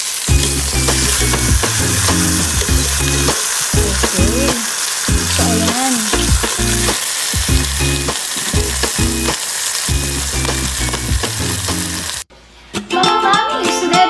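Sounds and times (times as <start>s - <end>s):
meat sizzling in a pan: 0.0s - 12.3s.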